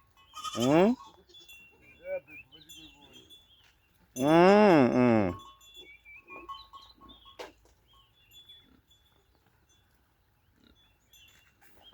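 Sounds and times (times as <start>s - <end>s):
small birds chirping: 0.0s - 4.4s, 5.5s - 11.9s.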